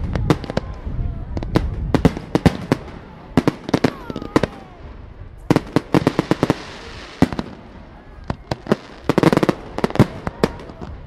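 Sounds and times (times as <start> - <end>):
hissing crackle of fireworks: 0.0 - 11.0.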